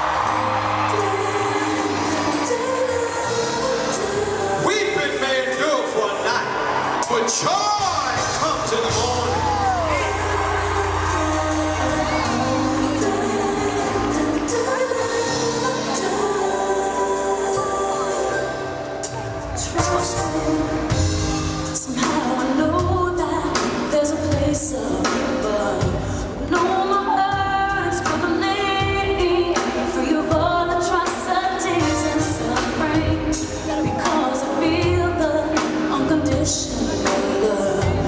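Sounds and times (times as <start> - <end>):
woman singing gospel ballad: 0.0 - 5.2, 9.2 - 38.0
band accompaniment: 0.0 - 38.0.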